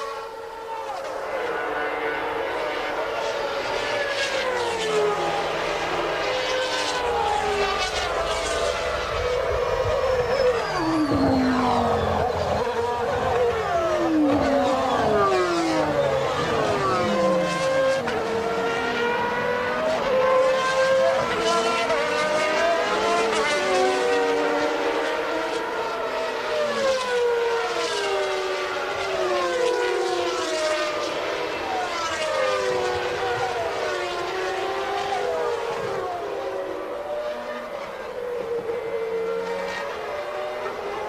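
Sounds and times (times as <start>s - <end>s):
race car engines at high revs: 0.0s - 41.0s.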